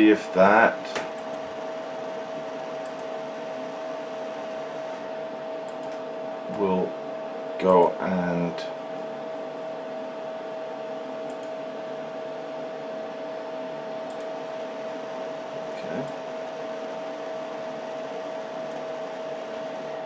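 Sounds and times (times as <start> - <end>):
cooling fans whirring: 0.0 - 20.0
high-pitched hum tone: 0.0 - 20.0.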